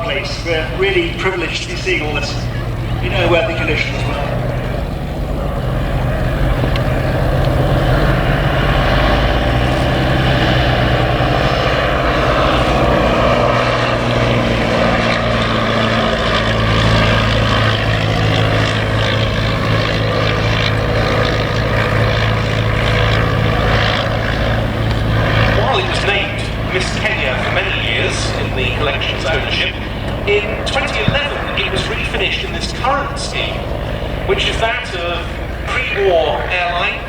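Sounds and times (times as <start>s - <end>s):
propeller aeroplane engine running: 0.0s - 37.0s.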